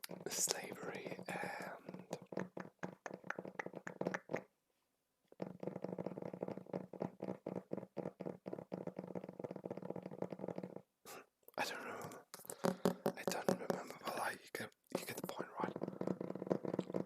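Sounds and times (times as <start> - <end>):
rapid tapping on a book: 0.0 - 4.4, 5.4 - 10.8, 12.4 - 14.2, 15.0 - 17.0.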